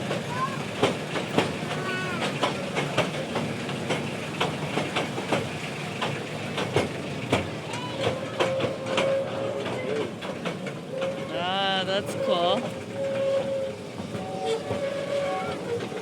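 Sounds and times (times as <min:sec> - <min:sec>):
train rumbling on rails: 0:00.0 - 0:16.0
wheels clattering over track: 0:00.0 - 0:16.0.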